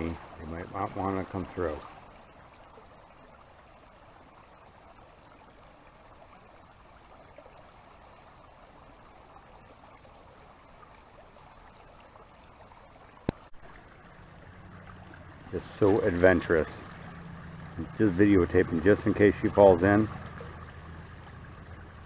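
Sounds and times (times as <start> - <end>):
stream water running: 0.0 - 22.0.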